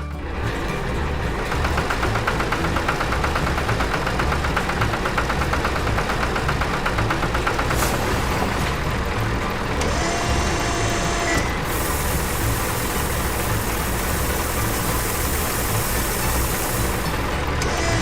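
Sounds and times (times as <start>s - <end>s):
farm vehicle engine running: 0.0s - 18.0s.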